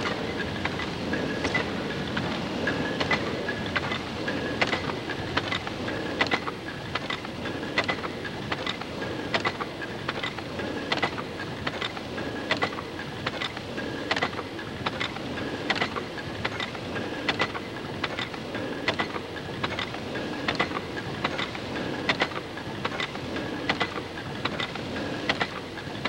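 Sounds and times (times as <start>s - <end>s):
steam engine clicks: 0.0s - 26.0s
steam engine rumble and hiss: 0.0s - 26.0s.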